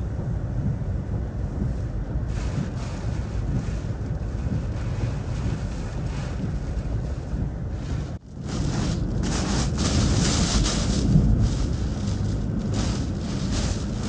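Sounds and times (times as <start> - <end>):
wind buffeting a vehicle: 0.0 - 14.0
rain hissing on windshield: 0.1 - 14.0.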